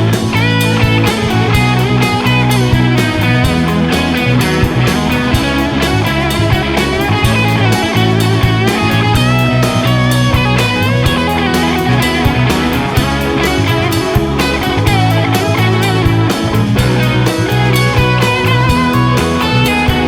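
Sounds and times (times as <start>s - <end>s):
rock music with electric guitar: 0.0s - 20.0s
steady drum beat: 0.0s - 20.0s.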